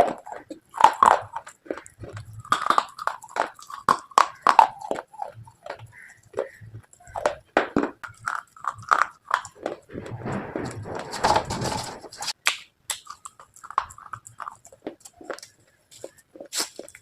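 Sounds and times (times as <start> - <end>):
chewing hard slate crunches: 0.0 - 17.0.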